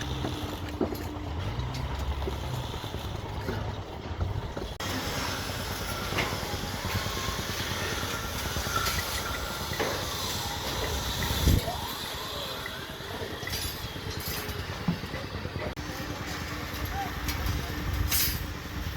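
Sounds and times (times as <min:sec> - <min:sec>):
machinery engine noise: 0:00.0 - 0:18.9.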